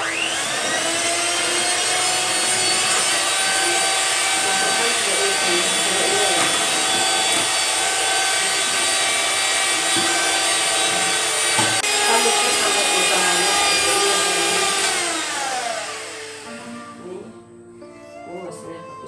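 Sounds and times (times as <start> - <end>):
electric mixer whipping eggs: 0.0 - 16.8
mixer motor winding down: 0.0 - 16.8.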